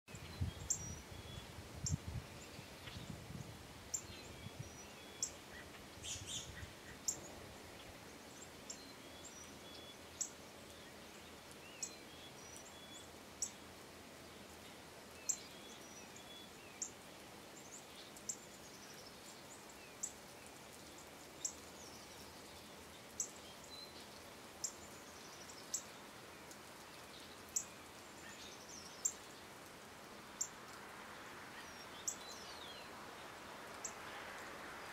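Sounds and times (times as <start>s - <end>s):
faint outdoor hiss: 0.1s - 34.9s.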